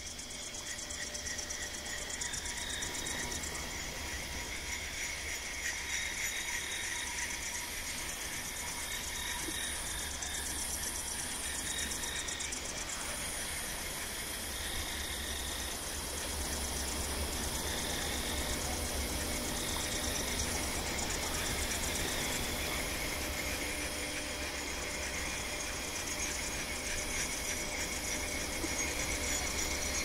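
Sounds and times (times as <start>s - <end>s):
fast-pulsing high buzz: 0.0s - 30.0s.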